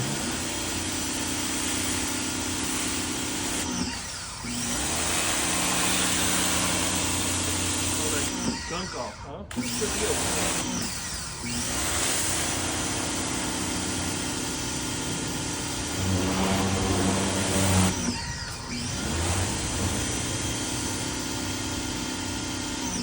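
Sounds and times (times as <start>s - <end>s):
pressure washer motor humming: 0.0s - 23.0s.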